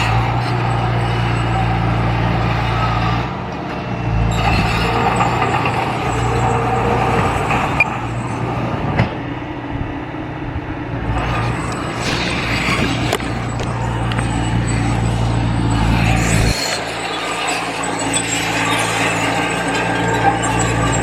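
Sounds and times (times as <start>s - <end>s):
diesel earthmover running: 0.0s - 21.0s.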